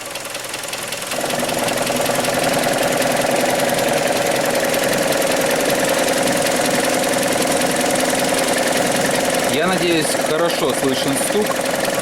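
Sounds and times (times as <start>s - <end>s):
car engine idling: 0.0s - 12.0s
loud rapid engine knocking: 0.0s - 12.0s.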